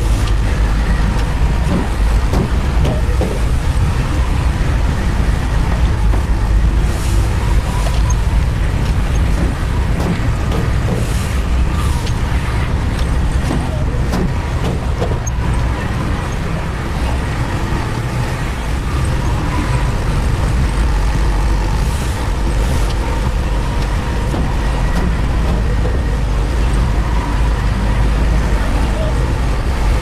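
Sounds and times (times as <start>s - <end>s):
machinery engine low rumble: 0.0s - 30.0s.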